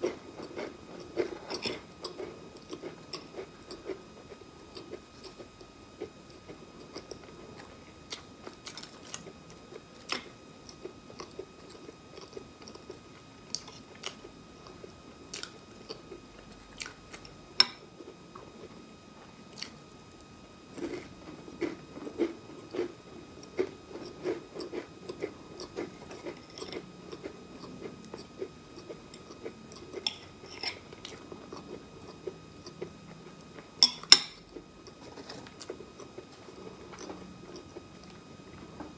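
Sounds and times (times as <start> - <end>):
rhythmic chewing: 0.0 - 38.9.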